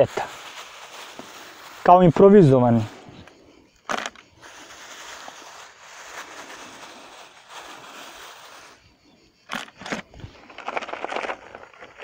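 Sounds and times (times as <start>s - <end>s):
plastic bag rustling: 0.0s - 2.6s, 3.9s - 8.8s, 9.5s - 12.0s.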